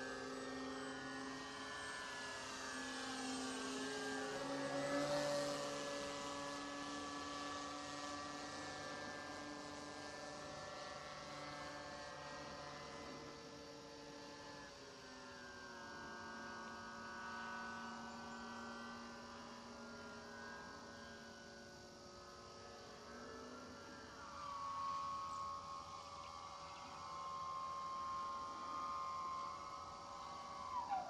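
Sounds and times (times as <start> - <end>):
model plane motor whine: 0.0 - 31.0.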